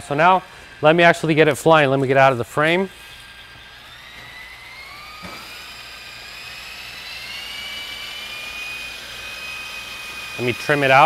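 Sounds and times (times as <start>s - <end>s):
rc helicopter rotors whining: 0.0s - 11.0s.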